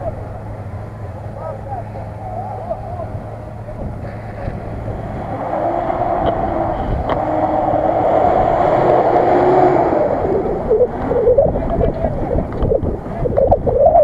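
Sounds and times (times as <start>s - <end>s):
truck engine churning through mud: 0.0s - 14.0s.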